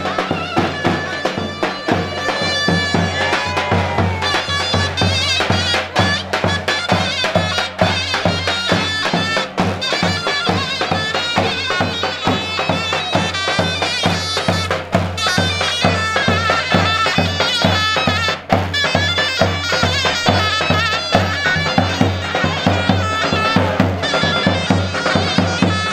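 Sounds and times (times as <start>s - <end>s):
pulsing drum beat: 0.0s - 25.9s
shrill reed pipe melody: 0.0s - 25.9s.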